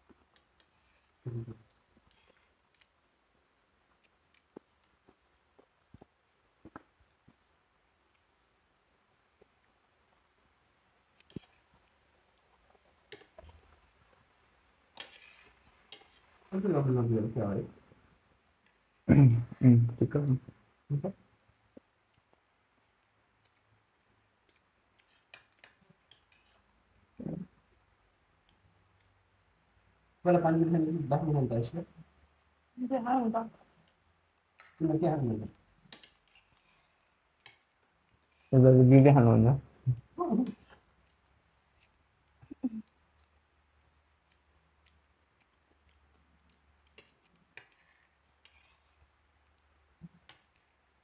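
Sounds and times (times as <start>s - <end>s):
soft chewing: 0.0s - 19.1s, 20.4s - 30.2s, 33.5s - 34.8s, 35.4s - 38.6s, 39.6s - 51.0s.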